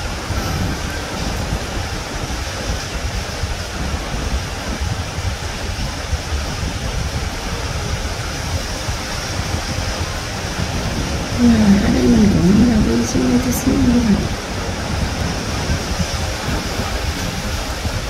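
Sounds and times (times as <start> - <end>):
low rumble with hiss: 0.0 - 18.0.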